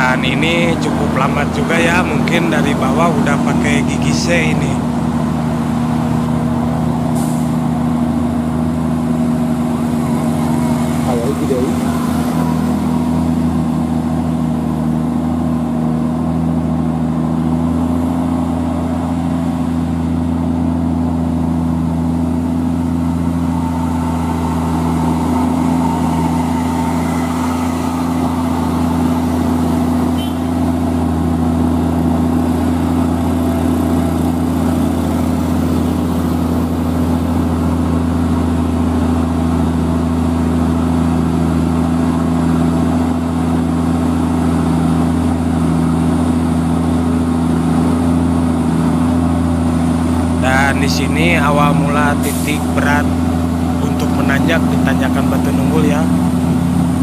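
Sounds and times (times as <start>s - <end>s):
truck diesel engine pulling uphill: 0.0s - 57.0s.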